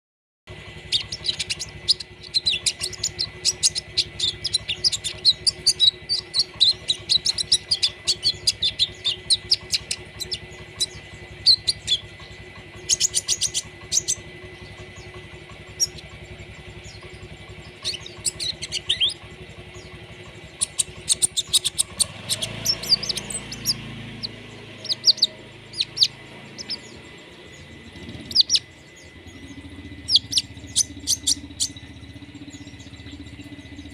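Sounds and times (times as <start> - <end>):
songbird rapid high chirping: 0.5 - 33.9.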